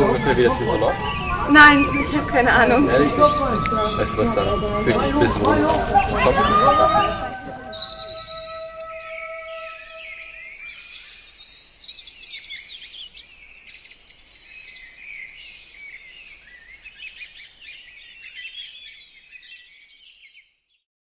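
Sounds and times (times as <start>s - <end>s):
songbirds chirping and trilling: 0.0s - 20.8s.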